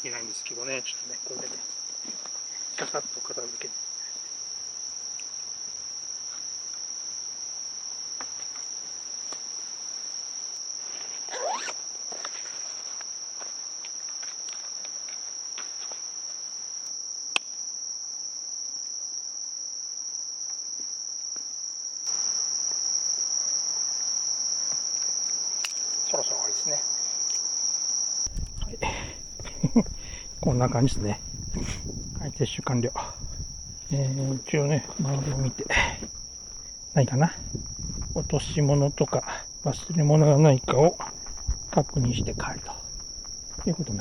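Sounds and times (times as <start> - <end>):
crickets chorus: 0.0 - 44.0.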